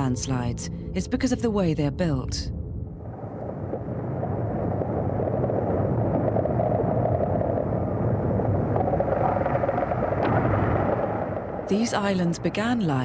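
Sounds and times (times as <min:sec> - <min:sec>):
low rumble of underwater lava: 0:02.4 - 0:13.0.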